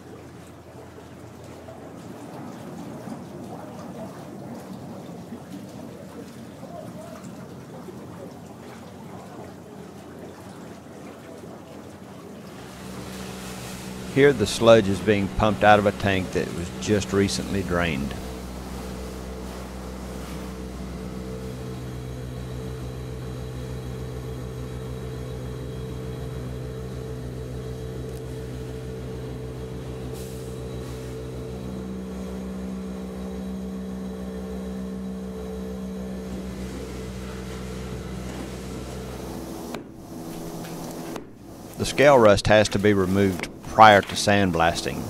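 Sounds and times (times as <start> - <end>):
engine-driven pump running: 0.0 - 45.0.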